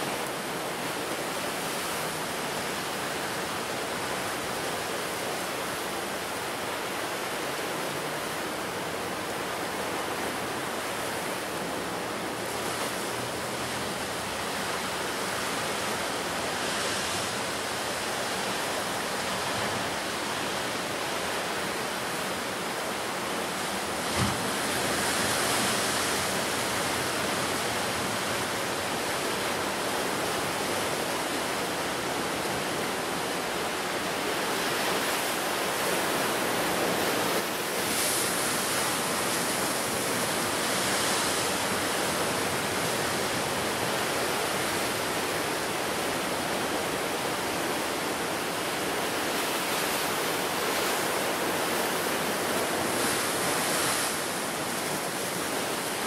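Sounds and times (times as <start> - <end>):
sea surf breaking: 6.8 - 56.0.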